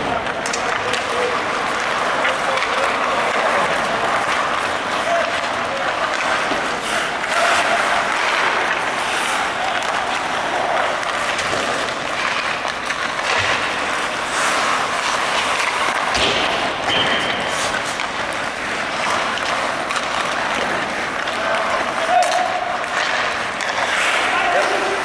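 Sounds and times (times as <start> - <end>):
hockey sticks knocking: 0.0 - 25.0
skates scraping on ice: 0.0 - 25.0.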